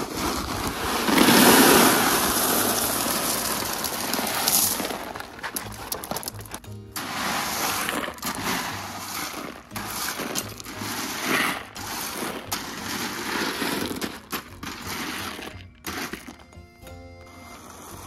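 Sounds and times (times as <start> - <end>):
rake scraping gravel: 0.0 - 18.0.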